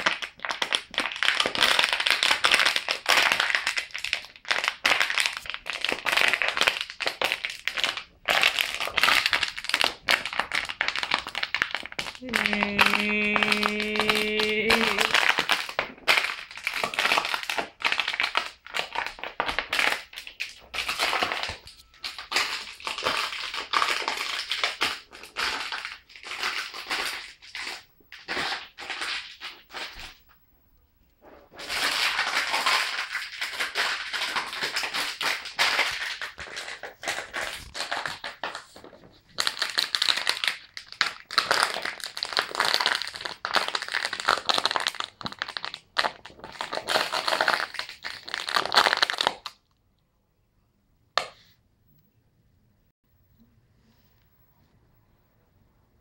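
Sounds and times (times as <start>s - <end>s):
plastic bottle crunching: 0.0s - 30.2s, 31.5s - 49.6s.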